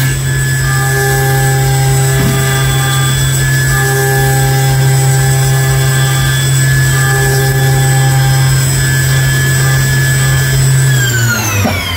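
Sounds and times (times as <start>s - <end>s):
milling machine cutting metal: 0.0s - 11.9s.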